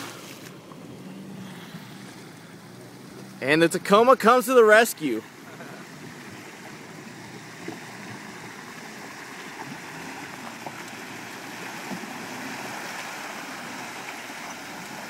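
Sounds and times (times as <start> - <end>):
water rushing and sloshing: 0.0 - 15.0.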